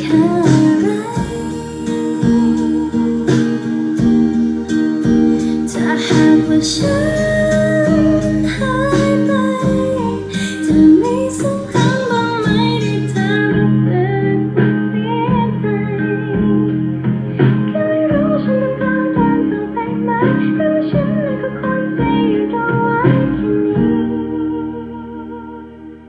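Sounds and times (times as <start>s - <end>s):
plucked guitar: 0.0s - 25.8s
woman singing: 0.0s - 25.9s.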